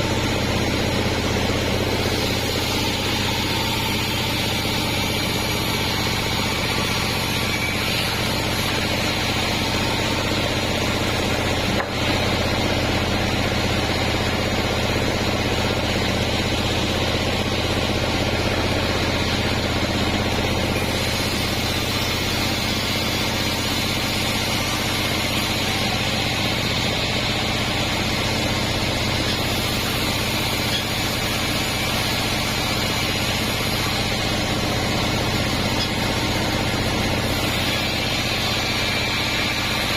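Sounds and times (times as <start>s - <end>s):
sawmill mechanical drone: 0.0s - 39.9s.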